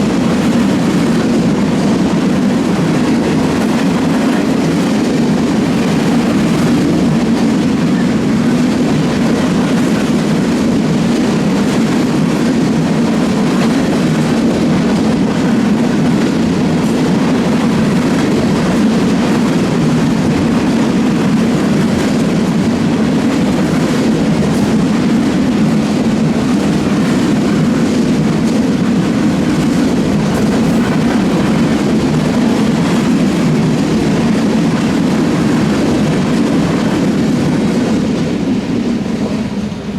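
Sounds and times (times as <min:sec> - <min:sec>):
train cars rolling over rails: 0:00.0 - 0:39.9.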